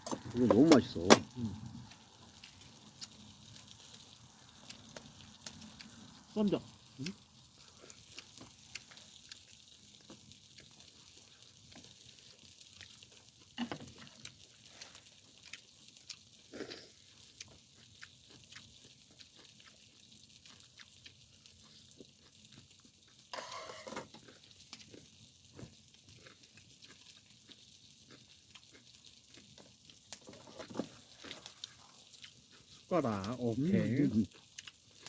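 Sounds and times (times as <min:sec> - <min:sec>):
meat sizzling on charcoal grill: 0:00.0 - 0:35.0.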